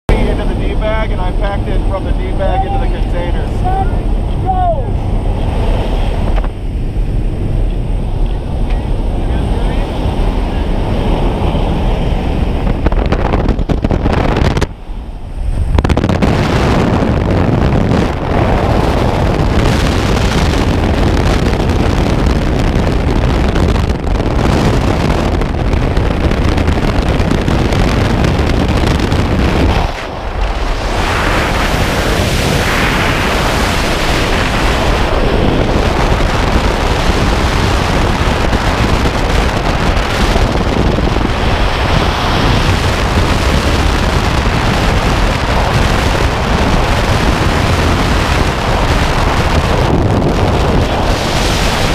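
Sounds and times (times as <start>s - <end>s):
wind rushing over microphone: 0.1s - 51.9s.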